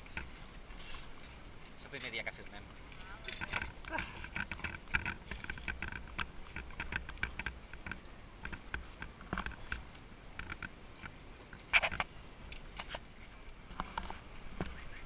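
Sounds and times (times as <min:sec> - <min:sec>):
light clicks and clinks: 0:00.0 - 0:14.3.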